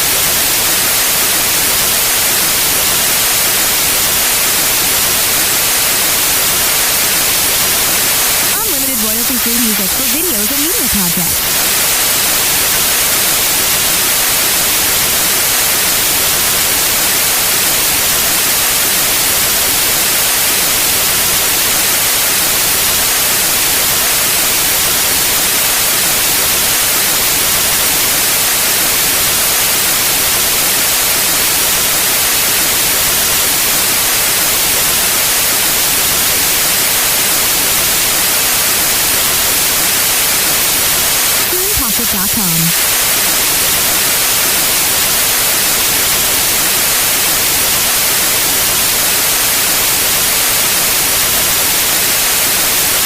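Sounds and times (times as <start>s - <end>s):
white noise hiss: 0.0s - 53.0s.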